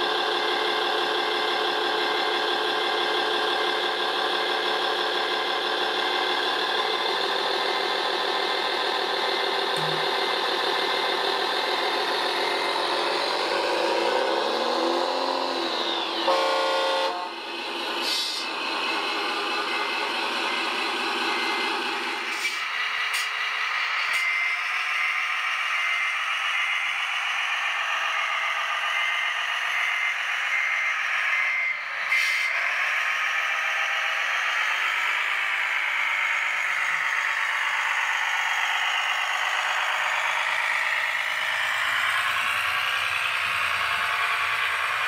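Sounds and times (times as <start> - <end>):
toy truck motor running: 0.0 - 45.0.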